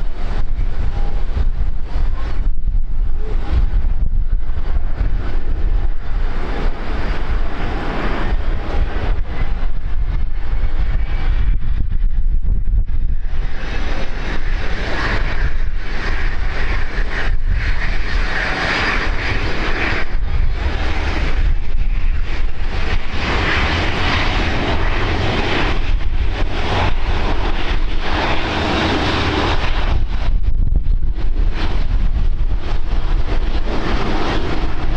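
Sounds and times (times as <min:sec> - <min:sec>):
airliner engines running loudly: 0:00.0 - 0:34.9
wind rumble on microphone: 0:00.0 - 0:34.9.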